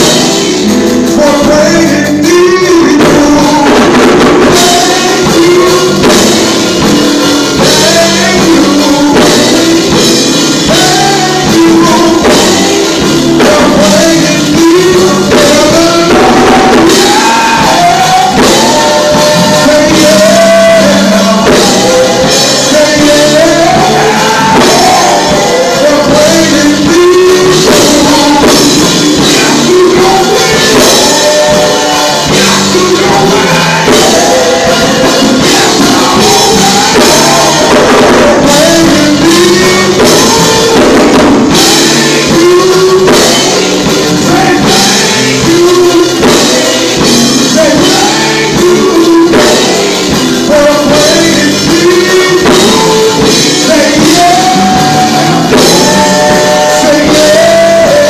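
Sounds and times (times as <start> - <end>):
live band with drums and guitar: 0.0 - 58.0
vocal group singing gospel: 0.0 - 58.0.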